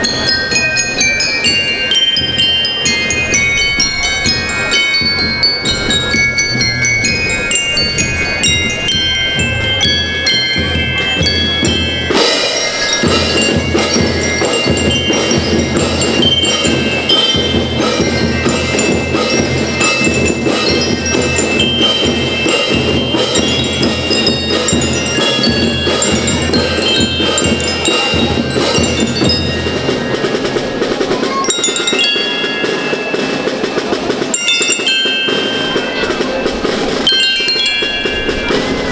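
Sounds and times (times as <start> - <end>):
band playing: 0.0 - 38.9
drums: 0.0 - 38.9
mallet percussion melody: 0.0 - 38.9.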